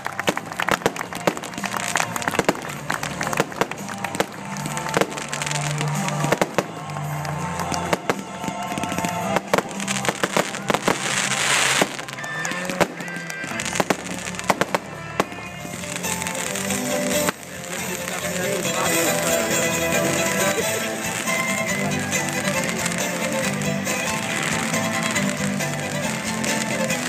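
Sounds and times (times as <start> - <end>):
fireworks cracking and popping: 0.0 - 27.0
music playing: 0.0 - 27.0
firework hissing rush: 0.2 - 27.0.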